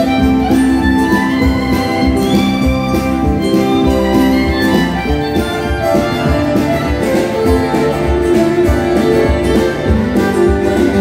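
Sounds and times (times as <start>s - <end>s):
fiddle playing tune: 0.0s - 11.0s
strummed acoustic guitars: 0.0s - 11.0s.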